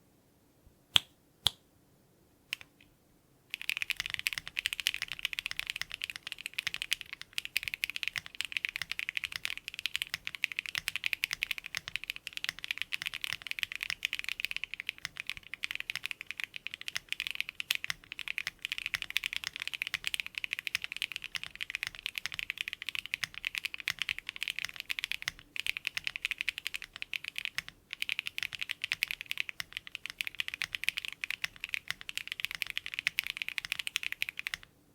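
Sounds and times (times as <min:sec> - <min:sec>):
mechanical keyboard typing: 0:03.5 - 0:34.7.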